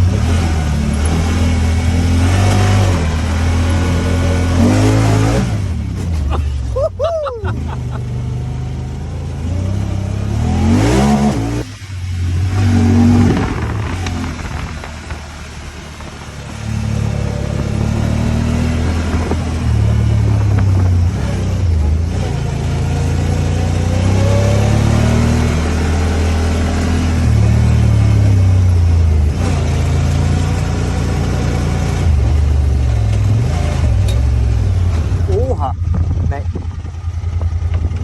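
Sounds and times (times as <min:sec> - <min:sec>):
engine revving: 0:00.0 - 0:06.6, 0:07.4 - 0:38.0.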